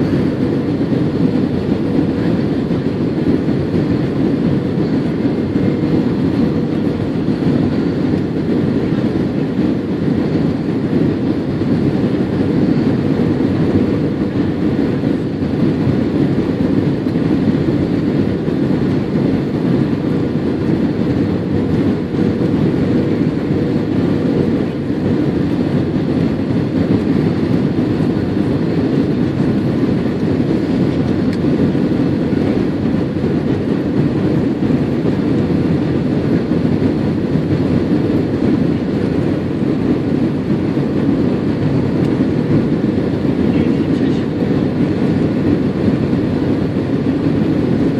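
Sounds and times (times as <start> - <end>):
air rushing over aircraft cabin: 0.0 - 47.9
jet engines droning: 0.0 - 47.9.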